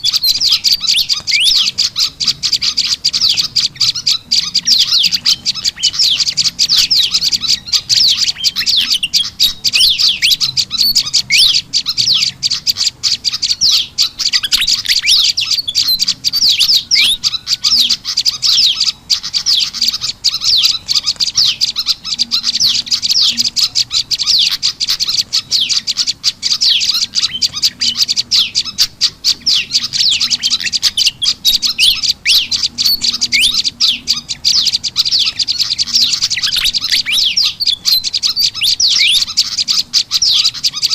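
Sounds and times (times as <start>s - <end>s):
fantail chattering calls: 0.0s - 40.9s
songbirds calling: 0.0s - 40.9s.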